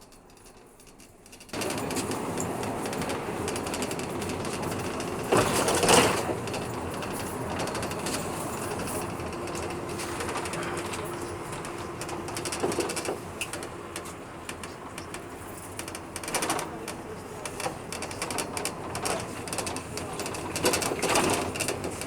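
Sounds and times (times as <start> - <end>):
bus engine and road noise: 1.6 - 22.0.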